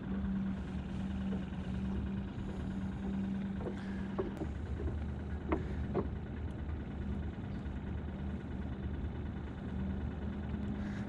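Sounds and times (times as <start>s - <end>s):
aerator pump humming: 0.0s - 11.0s.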